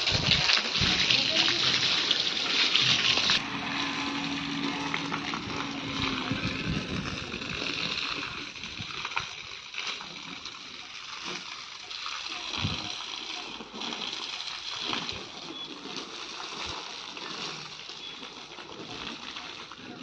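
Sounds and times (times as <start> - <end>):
hose water splattering on concrete: 0.0 - 3.4, 4.7 - 19.9.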